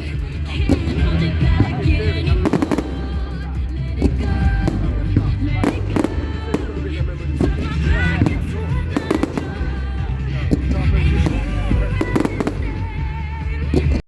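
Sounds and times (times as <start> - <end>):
fireworks bangs and crackles: 0.0 - 14.0
loud music with heavy bass: 0.0 - 14.0
person singing: 0.0 - 14.0.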